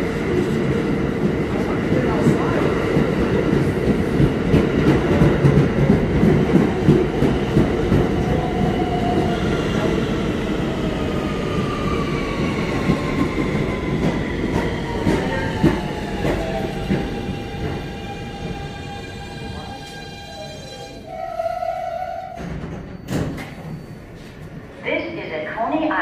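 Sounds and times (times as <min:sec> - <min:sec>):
subway train running past: 0:00.0 - 0:26.0.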